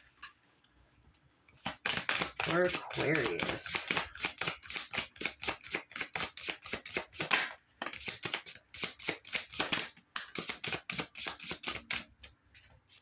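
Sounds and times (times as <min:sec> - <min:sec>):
cards being shuffled: 0:01.6 - 0:12.2.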